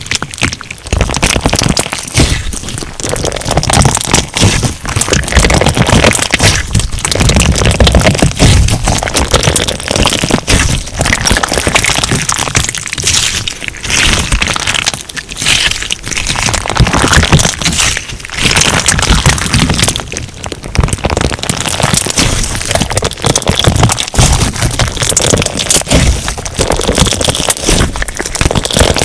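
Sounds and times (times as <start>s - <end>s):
slime crackling and popping: 0.0s - 29.0s.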